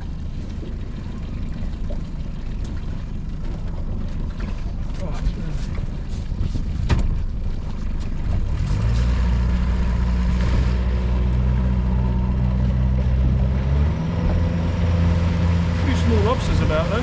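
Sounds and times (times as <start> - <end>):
boat engine running: 0.0 - 17.0
water noise: 0.0 - 17.0
wind: 0.0 - 17.0.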